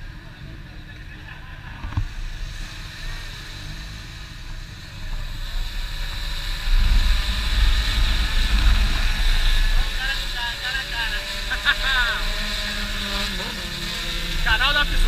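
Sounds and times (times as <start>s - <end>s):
wind rushing over microphone: 1.8s - 15.0s.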